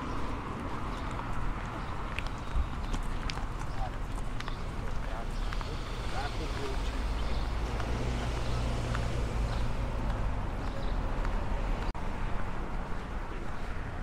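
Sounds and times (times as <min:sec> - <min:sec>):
low rumble of car traffic: 0:00.0 - 0:14.0.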